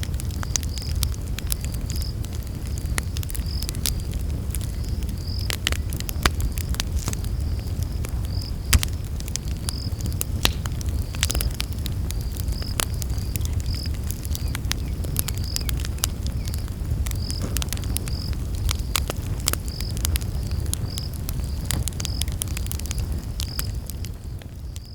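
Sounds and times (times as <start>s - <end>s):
campfire crackling and popping: 0.0s - 24.9s
low rumble of flames: 0.0s - 24.9s.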